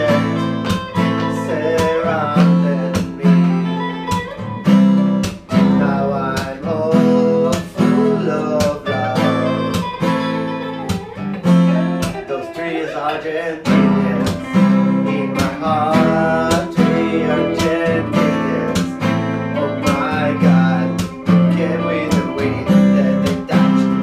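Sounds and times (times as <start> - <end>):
acoustic guitars strumming: 0.0 - 24.0
bouzouki melody: 0.0 - 24.0.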